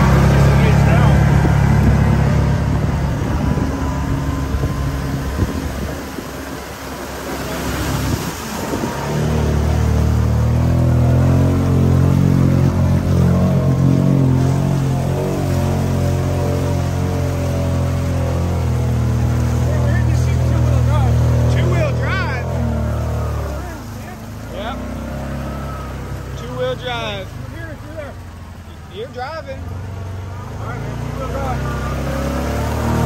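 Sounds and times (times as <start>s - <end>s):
mud and water splashing: 0.0s - 33.0s
vehicle engine working hard: 0.0s - 33.0s.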